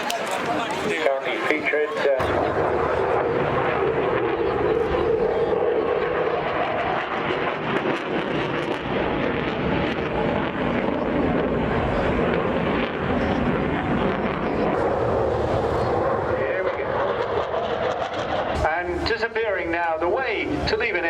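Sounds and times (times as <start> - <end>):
aircraft engine noise: 0.0 - 21.0.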